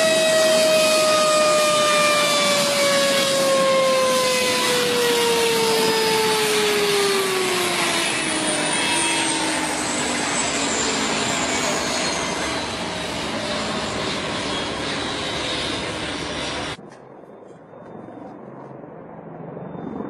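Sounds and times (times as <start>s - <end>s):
aircraft engine whining: 0.0s - 20.0s.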